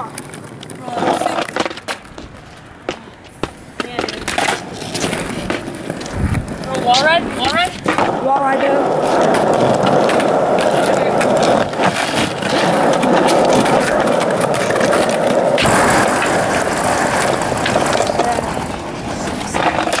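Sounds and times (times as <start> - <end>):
skateboard wheels rolling on concrete: 0.0 - 20.0.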